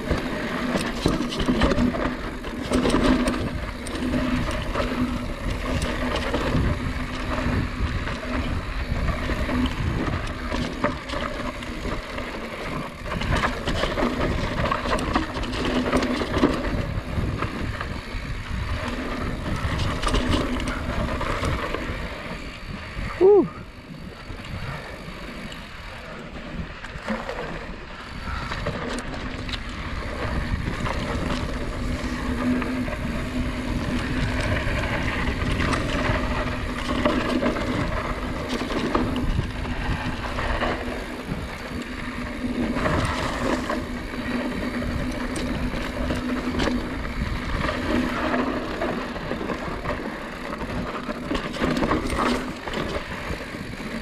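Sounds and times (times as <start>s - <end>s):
wind on microphone: 0.0s - 12.1s, 12.7s - 25.6s, 26.4s - 54.0s
bike tyre noise on dirt: 0.0s - 54.0s.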